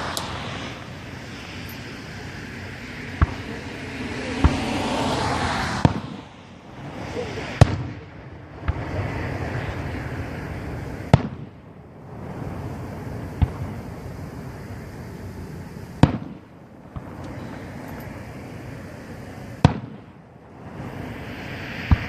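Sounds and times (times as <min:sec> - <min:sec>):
fireworks booming: 0:00.0 - 0:22.0
noisy wash of fireworks: 0:00.0 - 0:22.0.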